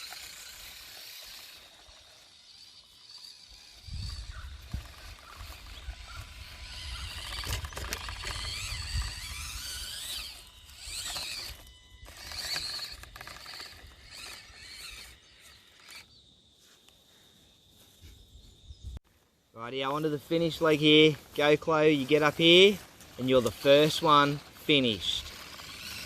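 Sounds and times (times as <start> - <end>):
small electric motor whining: 0.0 - 16.3, 20.0 - 26.0.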